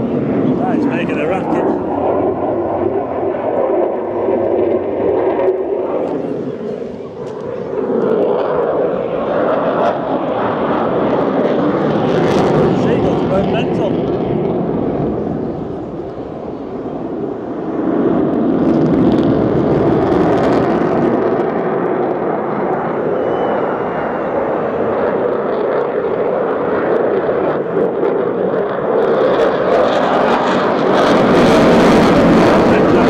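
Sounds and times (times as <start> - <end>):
jet engines rushing rumble: 0.0 - 33.0.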